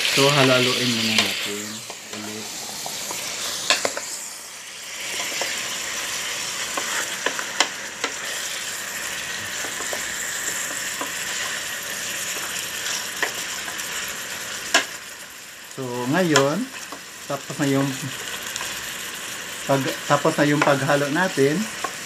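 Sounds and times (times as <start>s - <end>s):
chicken sizzling in pot: 0.0s - 22.0s.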